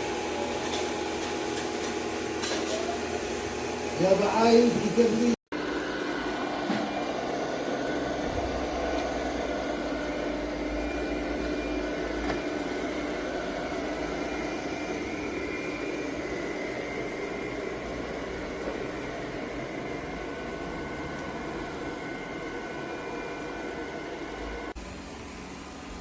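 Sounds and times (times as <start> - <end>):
machine whir: 0.0 - 26.0.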